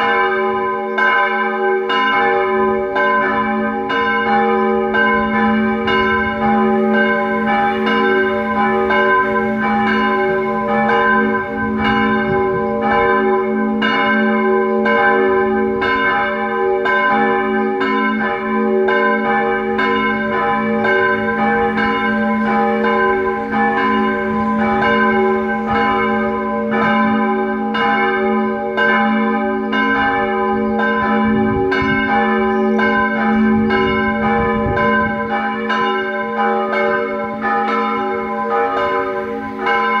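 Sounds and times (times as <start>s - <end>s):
church bells ringing: 0.0s - 40.0s.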